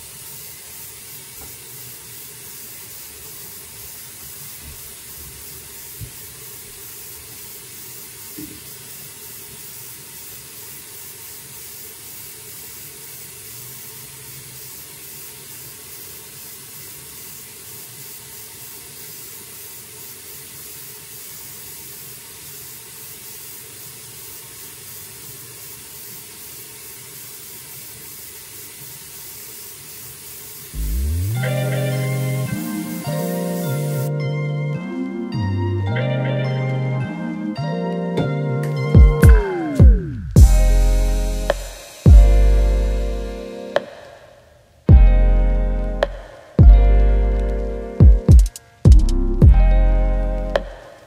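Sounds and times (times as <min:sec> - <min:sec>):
steady hiss: 0:00.0 - 0:51.0.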